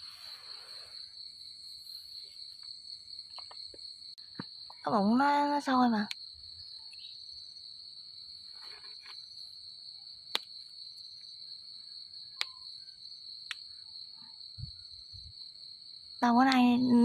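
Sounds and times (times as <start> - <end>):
night insects trilling: 0.0 - 17.0.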